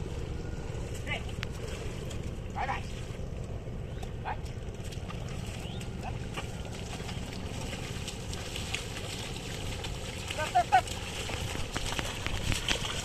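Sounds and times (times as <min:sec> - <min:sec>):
hooves squelching through mud: 0:00.0 - 0:13.0
plough splashing through mud: 0:00.0 - 0:13.0
wind rumble on microphone: 0:00.0 - 0:13.0.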